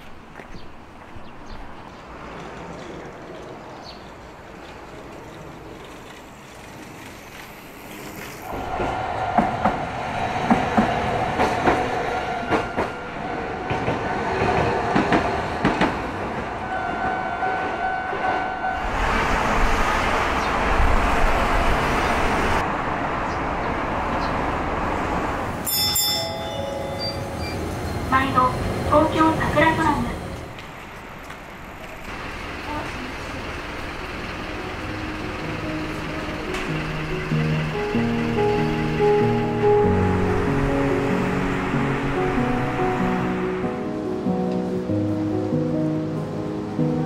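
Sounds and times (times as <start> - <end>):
streetcar rumbling on rails: 0.0 - 47.0.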